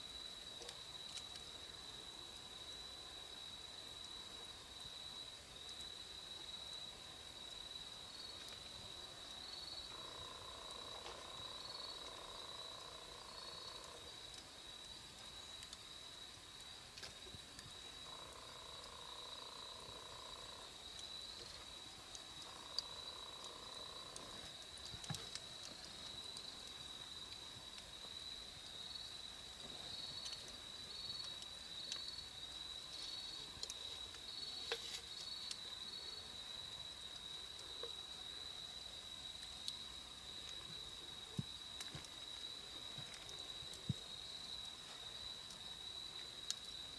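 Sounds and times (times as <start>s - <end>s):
campfire crackling and popping: 0.0s - 46.9s
crickets trilling: 0.0s - 46.9s.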